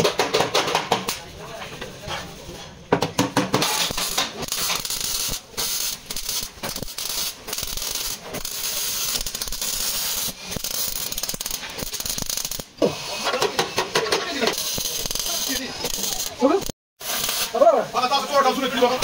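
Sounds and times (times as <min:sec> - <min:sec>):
arc welding crackling sizzle: 0:03.5 - 0:19.0.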